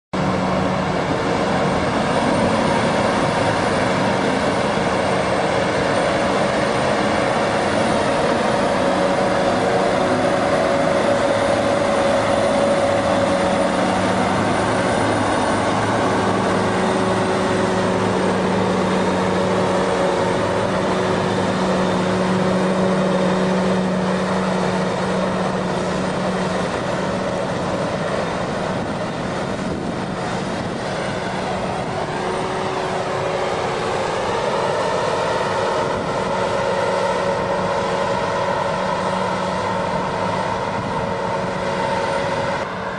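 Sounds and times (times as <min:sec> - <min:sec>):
diesel engine running: 0:00.1 - 0:42.9.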